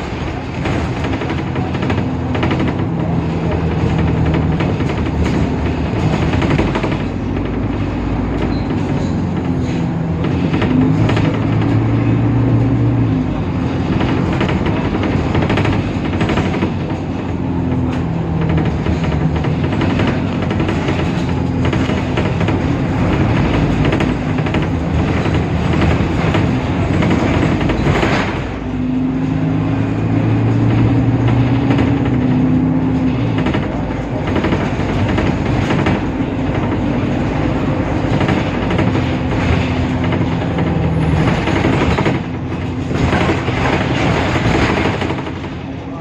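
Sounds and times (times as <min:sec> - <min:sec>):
bus diesel engine running: 0:00.0 - 0:46.0
knocks and rattles: 0:00.0 - 0:46.0
road noise drone: 0:00.0 - 0:46.0.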